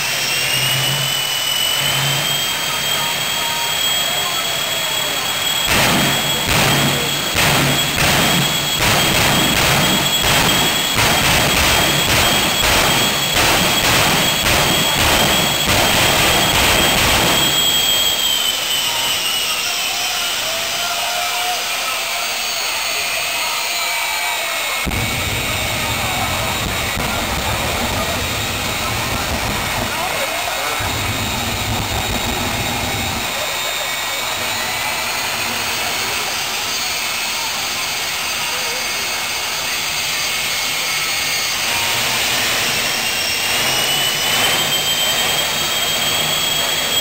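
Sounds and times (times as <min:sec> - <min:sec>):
jet engine roaring with turbine whine: 0:00.0 - 0:47.0.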